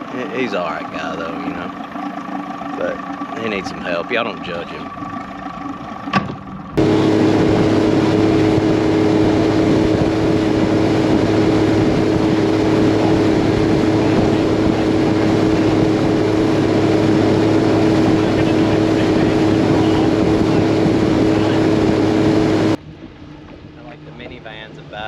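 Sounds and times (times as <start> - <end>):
outboard motor running: 0.0 - 25.0
wind and water rushing: 0.0 - 25.0.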